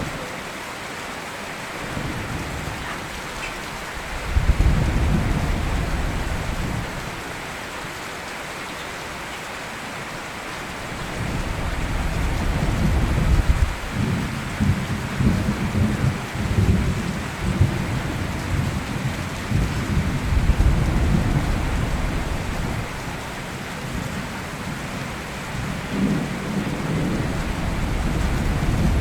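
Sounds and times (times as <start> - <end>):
rain falling: 0.0 - 29.0
thunder rumbling: 1.8 - 7.5, 10.8 - 29.0.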